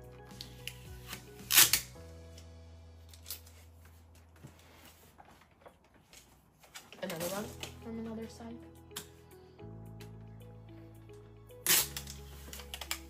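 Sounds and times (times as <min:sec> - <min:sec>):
background music: 0:00.0 - 0:05.0, 0:07.0 - 0:13.0.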